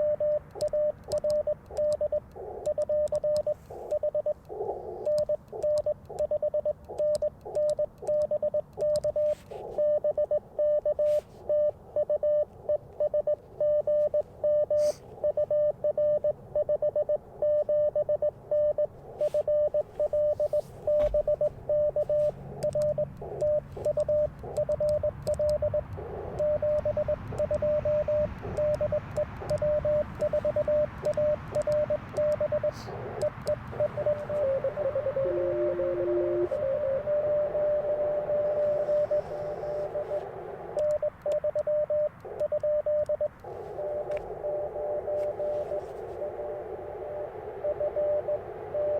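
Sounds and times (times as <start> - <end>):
morse code tone: 0.0 - 4.4, 5.0 - 48.9
radio hiss: 1.4 - 6.2, 9.1 - 15.6, 17.2 - 48.9.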